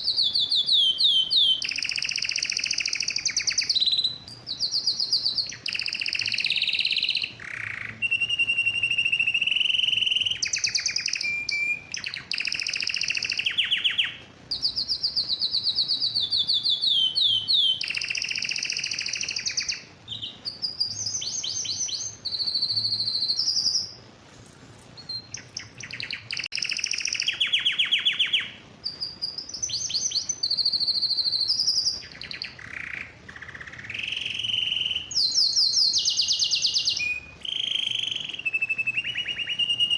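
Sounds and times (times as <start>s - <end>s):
canary singing trills: 0.0s - 24.1s, 24.9s - 39.9s.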